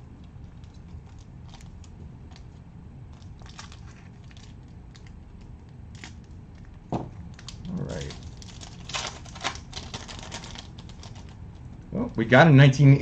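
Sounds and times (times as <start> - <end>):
foil wrapper crinkling: 0.5 - 11.4.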